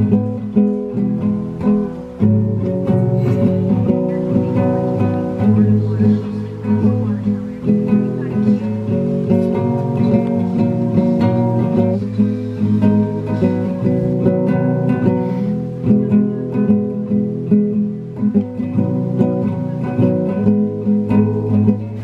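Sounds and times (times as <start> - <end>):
strummed acoustic guitar: 0.0 - 22.0.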